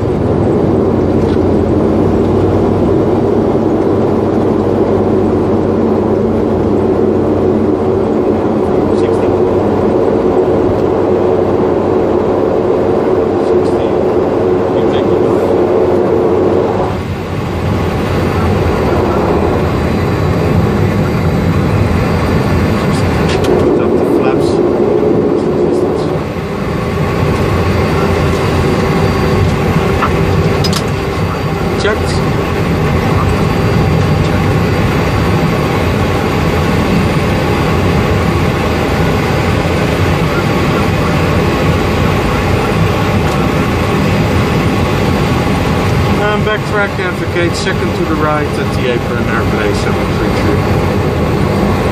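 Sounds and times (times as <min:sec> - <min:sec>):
runway rumble: 0:00.0 - 0:51.9
turboprop engines and propellers: 0:00.0 - 0:51.9.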